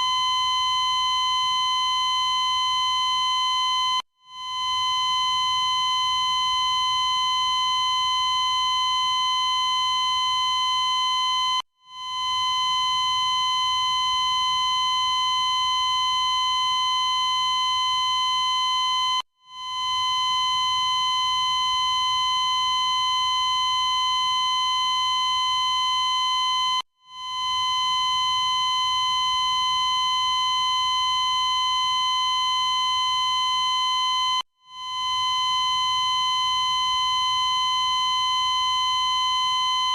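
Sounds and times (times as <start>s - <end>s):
cardiac monitor flatline tone: 0.0s - 39.9s.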